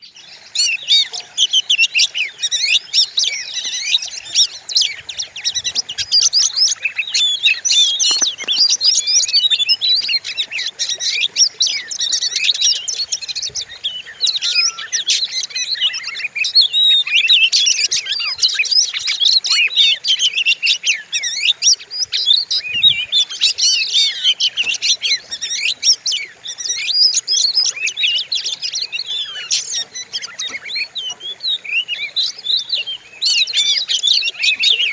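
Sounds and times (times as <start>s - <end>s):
bird singing rapid song: 0.0s - 34.9s.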